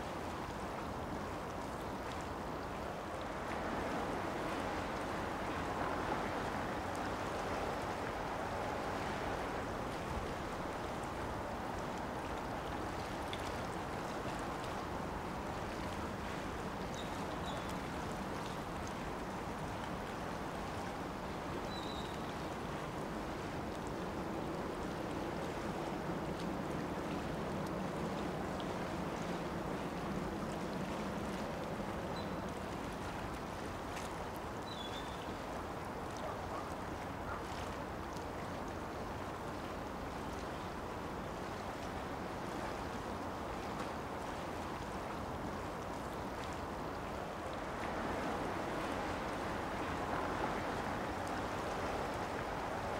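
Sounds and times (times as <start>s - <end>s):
water rushing: 0.0s - 52.9s
wind: 0.0s - 52.9s.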